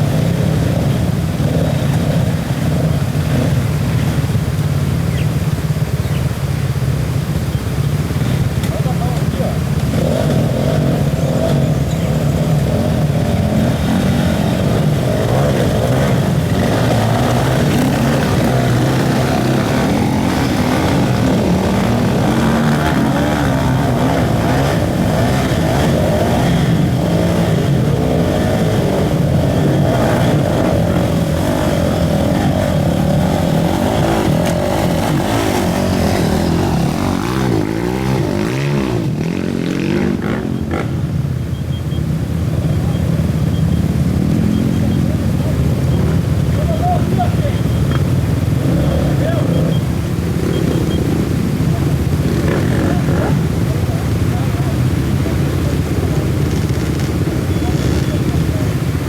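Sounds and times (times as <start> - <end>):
off-road motorcycle engines revving: 0.0 - 59.0.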